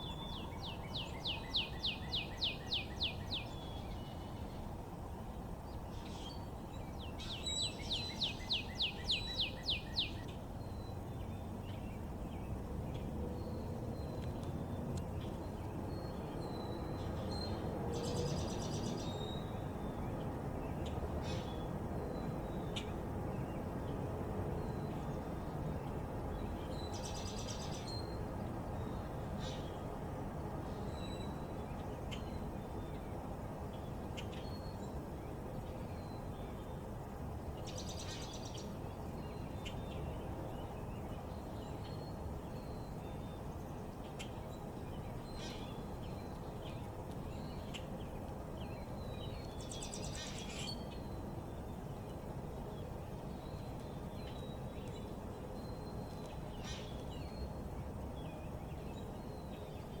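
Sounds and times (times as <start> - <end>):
songbirds chirping: 0.0 - 60.0.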